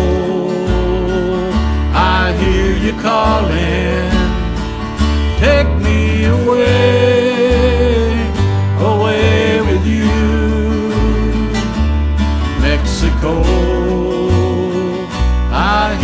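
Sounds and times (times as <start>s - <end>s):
person singing: 0.0s - 4.6s, 5.3s - 11.8s, 12.6s - 16.0s
acoustic guitar: 0.0s - 16.0s
walking bass line: 0.0s - 16.0s.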